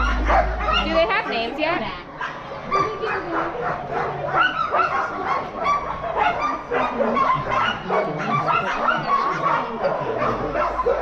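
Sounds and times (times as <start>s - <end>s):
huskies barking and yipping: 0.0s - 11.0s.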